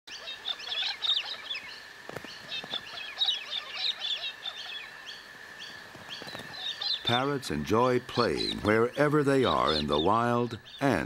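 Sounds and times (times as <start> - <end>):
many birds chirping: 0.1 - 11.0
steady high hum: 0.1 - 11.0.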